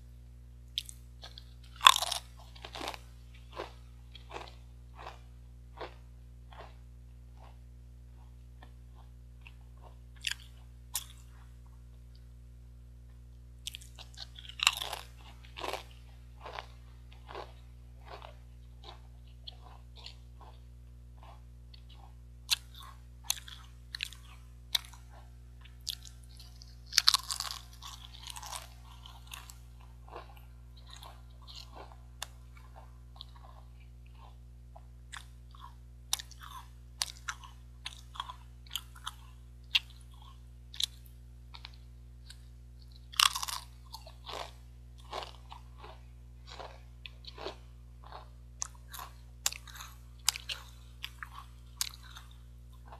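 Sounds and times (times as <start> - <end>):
potato chips crunching: 0.7 - 7.6, 8.6 - 11.4, 13.6 - 34.4, 35.1 - 52.9.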